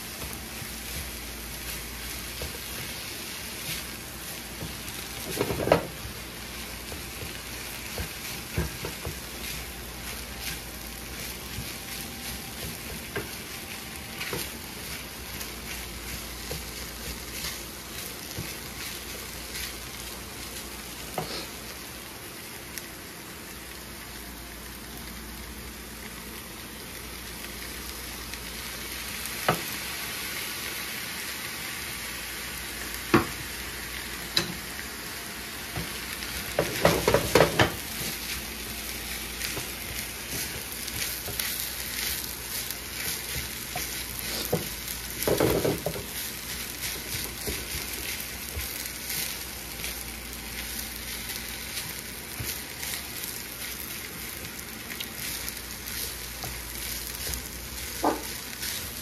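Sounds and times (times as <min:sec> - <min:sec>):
stir fry sizzling in a pan: 0:00.0 - 0:59.0.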